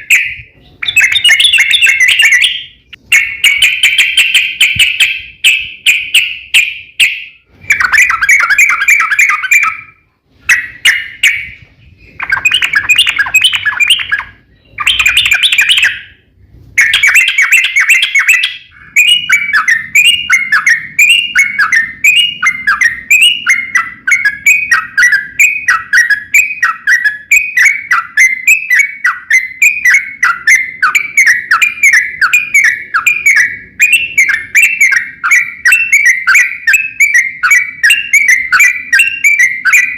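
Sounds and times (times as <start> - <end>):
bird chattering song: 0.0 - 39.9
bird repeated down-slurred notes: 0.0 - 39.9.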